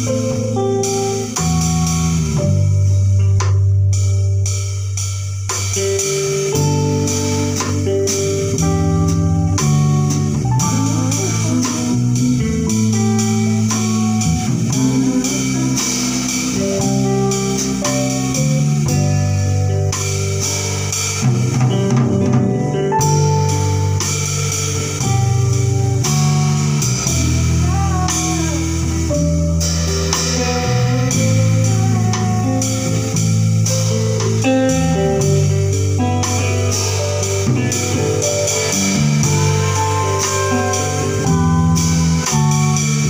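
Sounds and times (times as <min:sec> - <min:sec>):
live band playing: 0:00.0 - 0:43.0.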